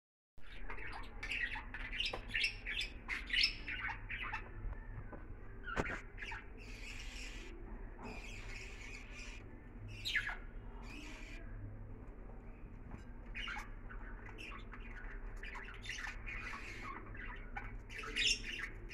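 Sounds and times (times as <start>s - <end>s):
budgerigars chirping and squawking: 0.4s - 4.6s, 5.4s - 11.6s, 12.9s - 18.9s.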